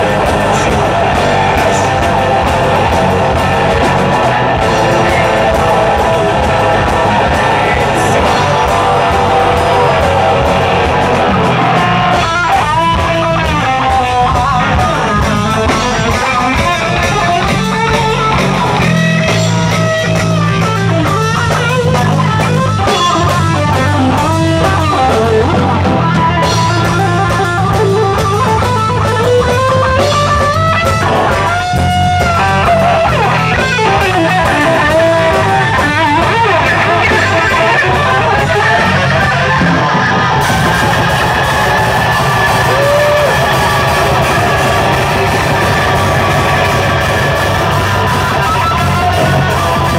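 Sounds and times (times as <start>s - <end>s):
bending high guitar notes: 0.0s - 49.9s
metal band playing: 0.0s - 49.9s.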